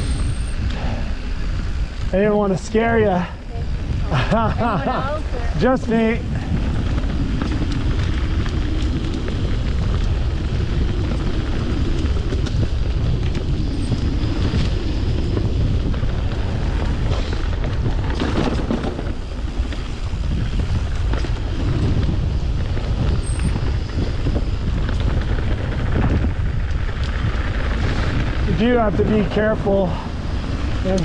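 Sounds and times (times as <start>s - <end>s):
bike clicks and rattles: 0.0s - 31.0s
wind buffeting microphone: 0.0s - 31.0s.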